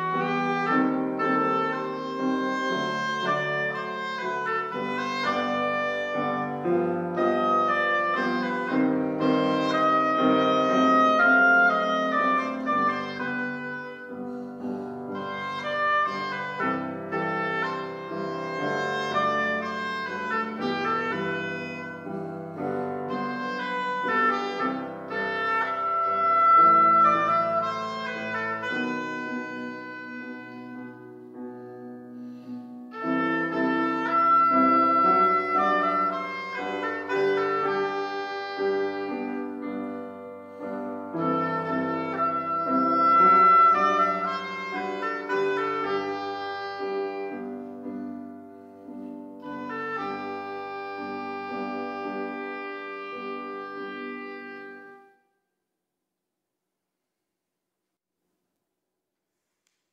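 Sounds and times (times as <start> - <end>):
piano accompaniment: 0.0 - 55.2
oboe melody: 0.0 - 55.3.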